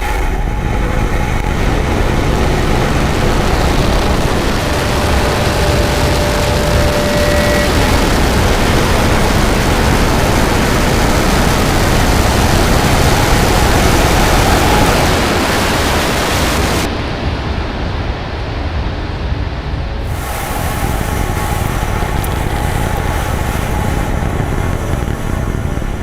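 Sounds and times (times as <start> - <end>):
low rumble: 0.0 - 26.0
rocket engines roaring: 0.0 - 26.0.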